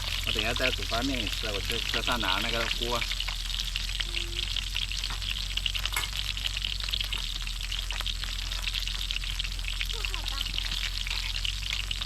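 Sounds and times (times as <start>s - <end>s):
pork sizzling in a pan: 0.0s - 12.0s.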